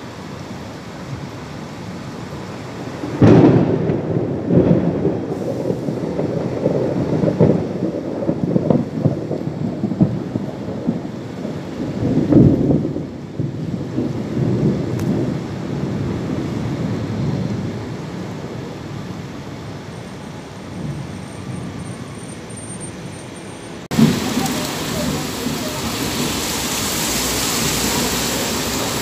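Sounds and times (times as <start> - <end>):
thunder clap and rumble: 1.1 - 22.2, 23.8 - 29.0.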